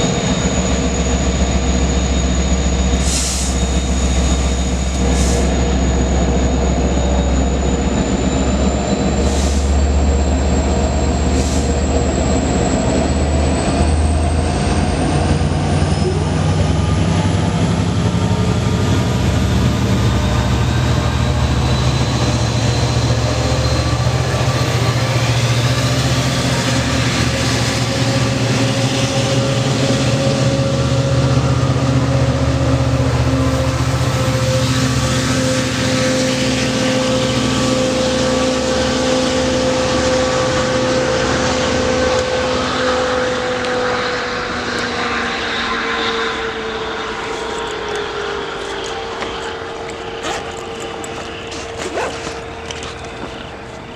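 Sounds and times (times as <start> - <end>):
diesel locomotives running: 0.0 - 53.9.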